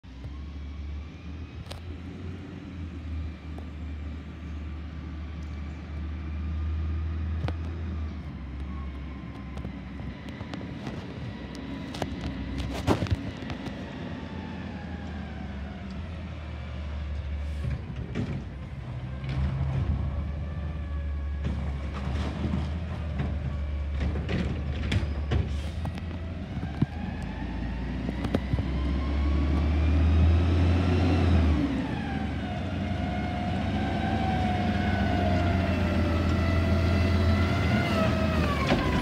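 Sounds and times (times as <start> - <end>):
garbage truck diesel engine: 0.0 - 39.0.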